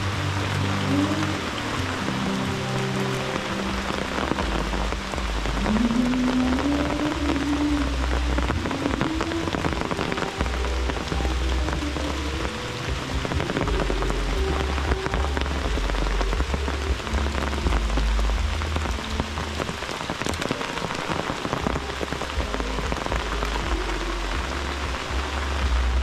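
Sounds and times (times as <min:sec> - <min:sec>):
low uneven rumble: 0:00.0 - 0:26.0
rain pattering on foliage: 0:00.0 - 0:26.0.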